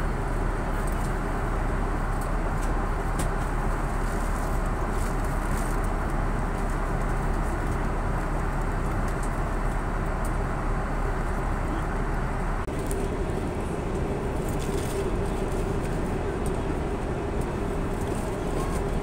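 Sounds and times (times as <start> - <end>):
airplane cabin airflow and engine noise: 0.0 - 19.0.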